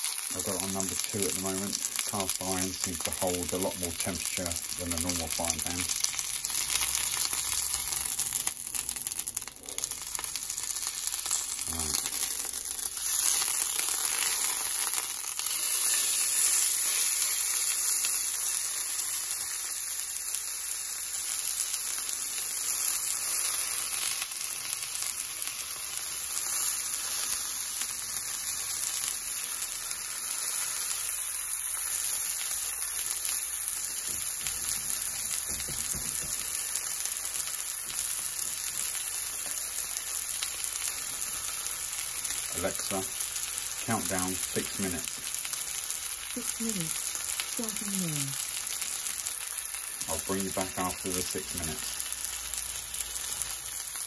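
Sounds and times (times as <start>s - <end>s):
steak sizzling in hot oil: 0.0s - 54.0s.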